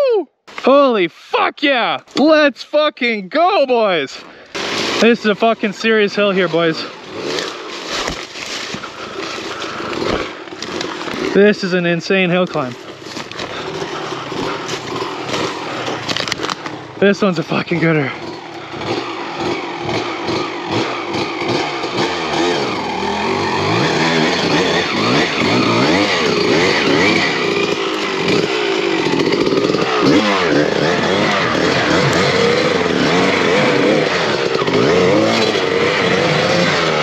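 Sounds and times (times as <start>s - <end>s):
dirt bike engine revving: 4.0s - 37.0s.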